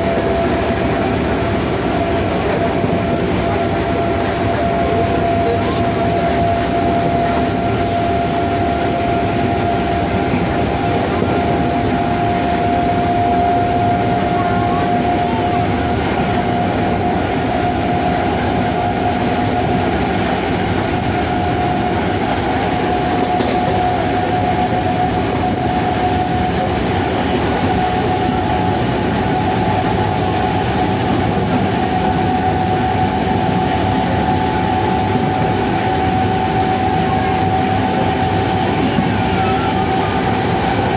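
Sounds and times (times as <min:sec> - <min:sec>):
rumble of moving train: 0:00.0 - 0:40.9.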